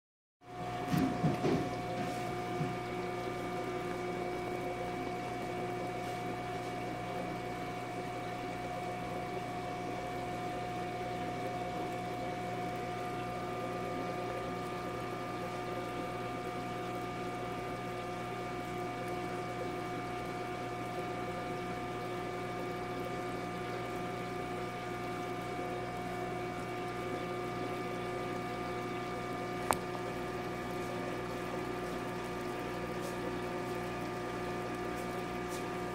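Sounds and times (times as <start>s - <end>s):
aquarium water pump humming: 0.4s - 35.9s
water trickling: 0.5s - 35.9s.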